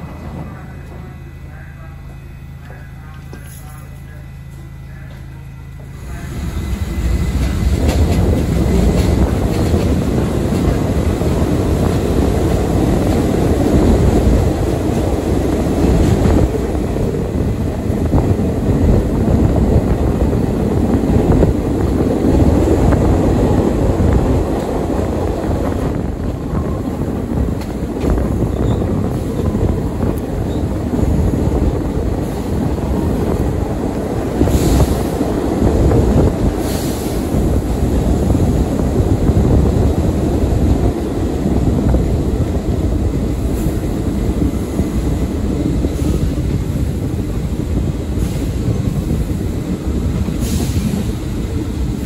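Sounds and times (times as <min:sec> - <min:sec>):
subway wheels rumbling on rails: 0:00.0 - 0:52.0.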